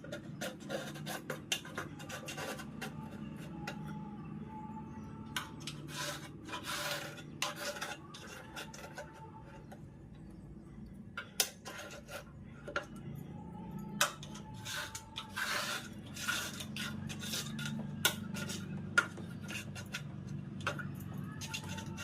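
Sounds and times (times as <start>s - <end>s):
spoon scraping window track: 0.0s - 22.0s.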